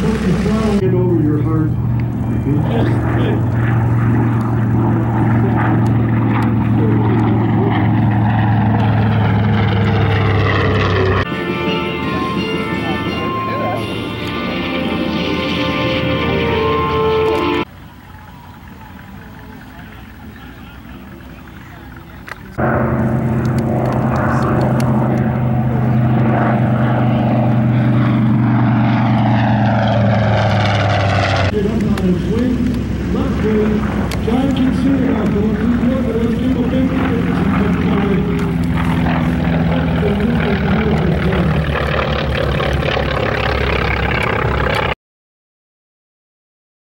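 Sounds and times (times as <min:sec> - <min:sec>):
propeller plane droning past: 0:00.0 - 0:45.0.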